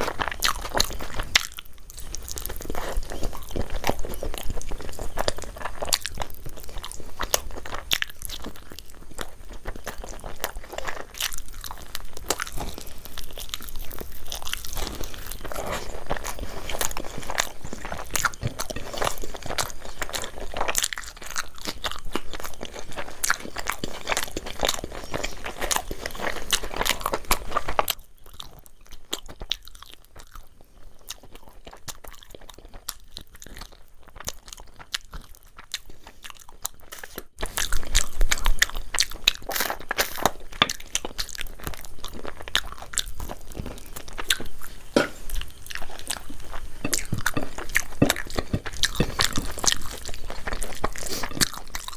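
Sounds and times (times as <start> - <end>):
person chewing crunchy food: 0.0 - 51.9.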